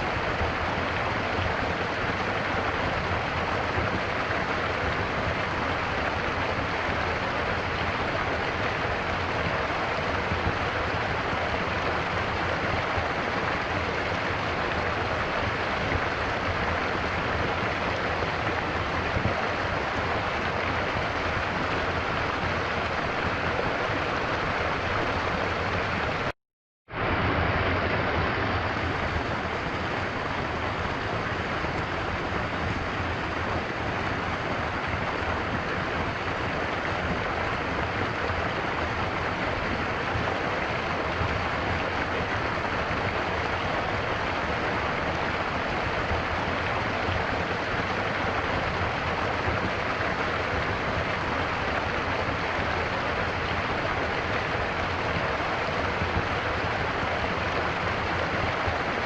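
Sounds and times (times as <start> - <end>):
stream water flowing: 0.0 - 26.3, 26.9 - 59.0.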